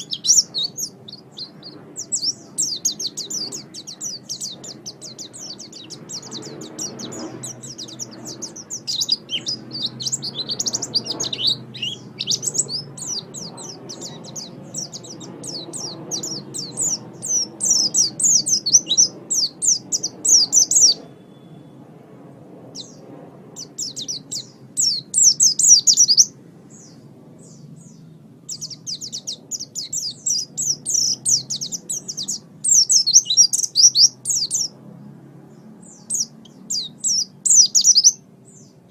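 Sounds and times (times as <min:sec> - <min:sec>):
bird twittering song: 0:00.0 - 0:21.8, 0:22.7 - 0:34.8, 0:35.4 - 0:38.9.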